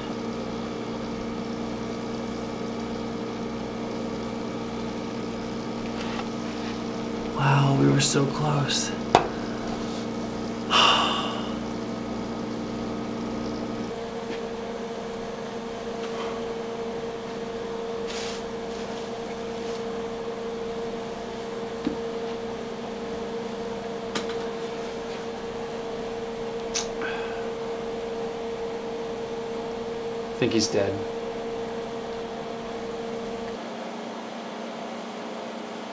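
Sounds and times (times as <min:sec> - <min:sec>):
aquarium pump hum: 0:00.0 - 0:35.9.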